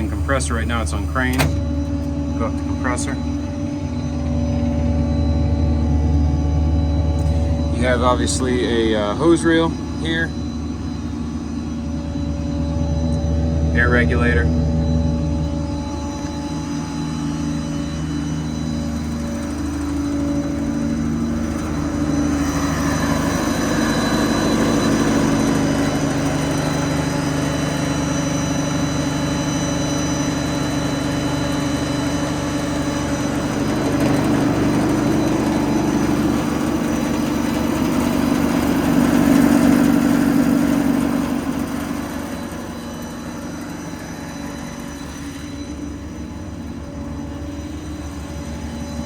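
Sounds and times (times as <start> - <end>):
diesel engine running: 0.0 - 49.0
hydraulic air compressor: 0.0 - 49.0.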